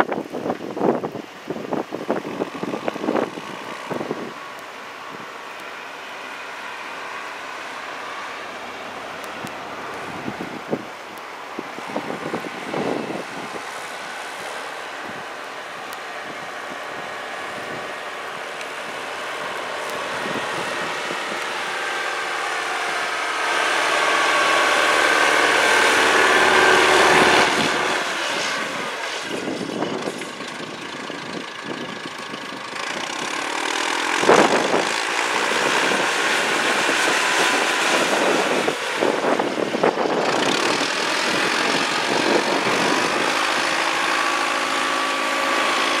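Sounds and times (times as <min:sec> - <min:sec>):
wheel loader diesel engine running: 0:00.0 - 0:46.0.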